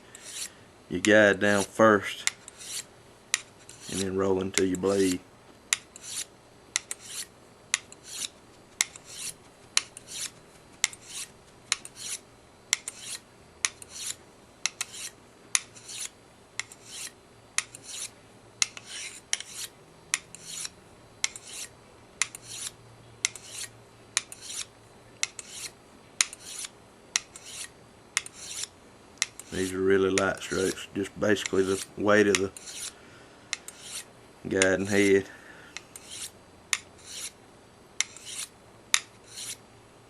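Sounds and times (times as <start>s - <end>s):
blade scraping on sharpening stone: 0.1s - 0.5s, 1.5s - 4.1s, 5.8s - 30.8s, 31.4s - 34.1s, 35.8s - 37.4s, 38.0s - 39.6s.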